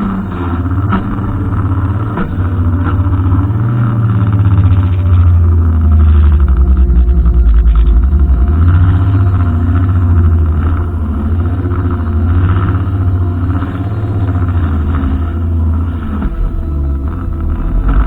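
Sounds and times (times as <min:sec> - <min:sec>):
brushcutter engine running: 0:00.0 - 0:18.0.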